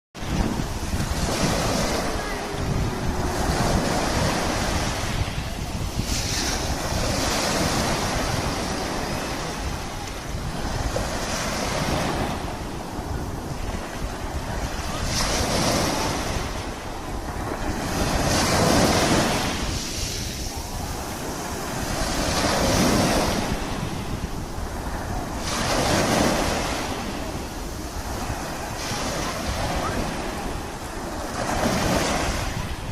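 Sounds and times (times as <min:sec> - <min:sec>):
sea surf washing onto shore: 0:00.2 - 0:32.9
wind rumbling on microphone: 0:00.2 - 0:32.9.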